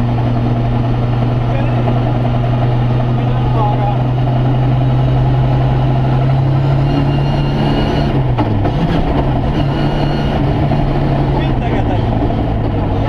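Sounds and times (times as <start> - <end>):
car engine running hard: 0.0 - 13.0.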